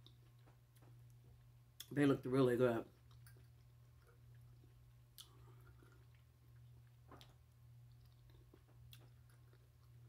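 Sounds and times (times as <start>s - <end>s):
faint chewing of food: 0.0s - 2.0s, 2.7s - 10.0s
steady low hum: 0.0s - 10.0s.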